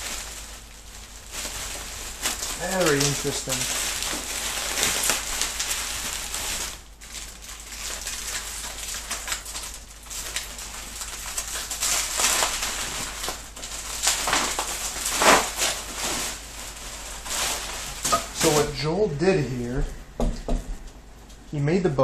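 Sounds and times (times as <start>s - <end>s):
bubble wrap crinkling: 0.0s - 21.6s.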